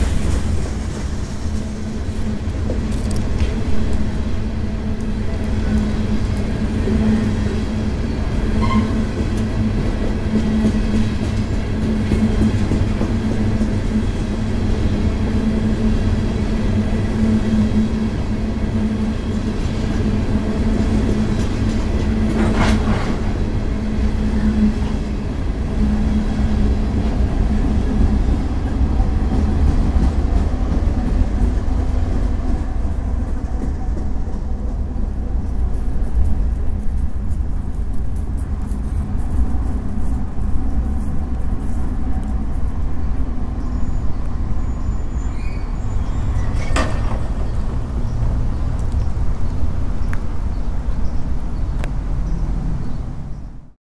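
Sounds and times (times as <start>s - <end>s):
diesel locomotive pushing: 0.0s - 50.4s
train cars rolling on rails: 0.0s - 53.7s.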